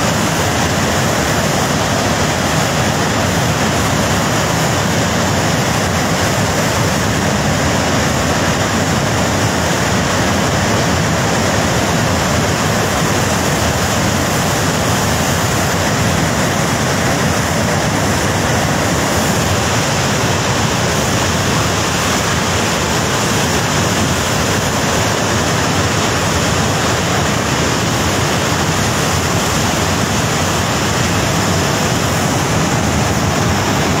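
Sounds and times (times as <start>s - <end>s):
flood water rushing: 0.0s - 34.0s.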